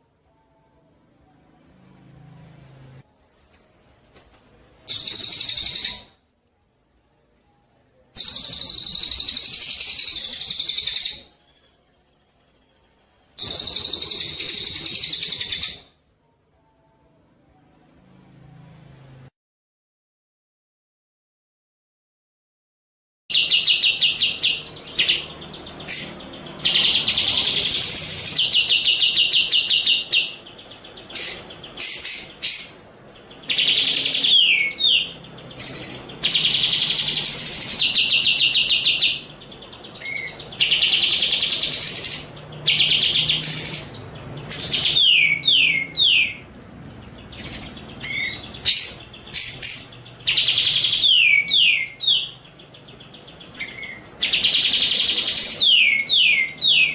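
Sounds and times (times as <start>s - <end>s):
songbird singing: 0.0s - 19.2s, 23.3s - 56.9s.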